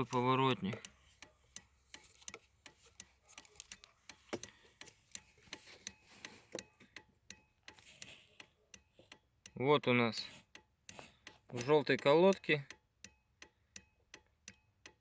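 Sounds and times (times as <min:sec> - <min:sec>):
turn signal flasher ticking: 0:00.0 - 0:15.0.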